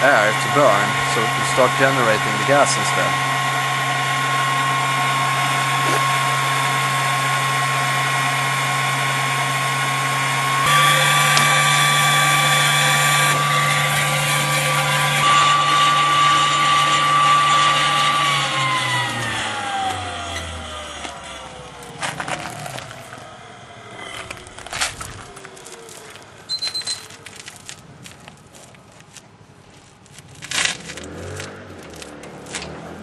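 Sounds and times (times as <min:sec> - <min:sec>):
electric fan whining: 0:00.0 - 0:33.0.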